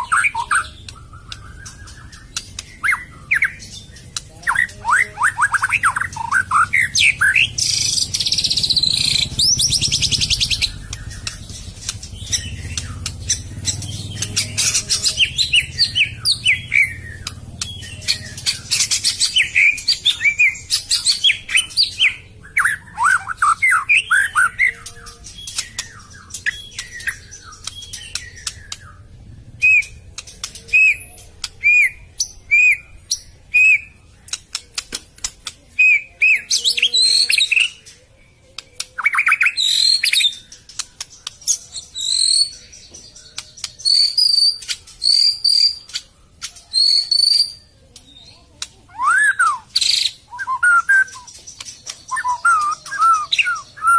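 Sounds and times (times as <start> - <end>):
songbird singing whistled phrases: 0.0 - 34.0, 35.7 - 53.9.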